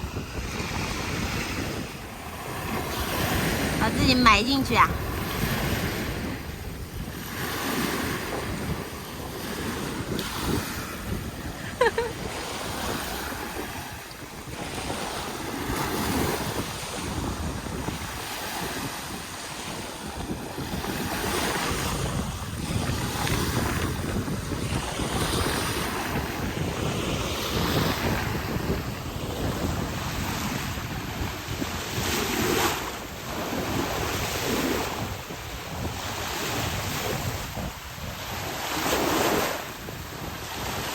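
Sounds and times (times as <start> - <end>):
ocean surf on beach: 0.0 - 40.9
wind buffeting microphone: 0.0 - 40.9.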